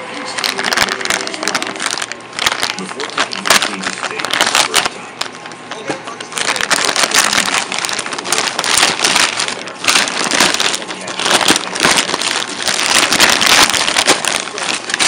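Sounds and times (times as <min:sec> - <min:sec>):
packaging crinkling: 0:00.1 - 0:15.0.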